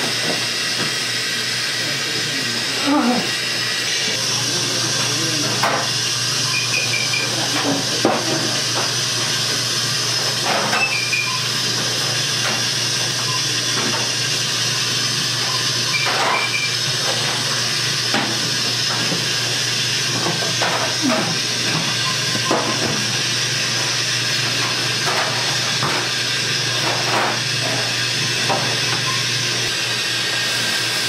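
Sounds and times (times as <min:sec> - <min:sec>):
steam hissing: 0:00.0 - 0:31.0.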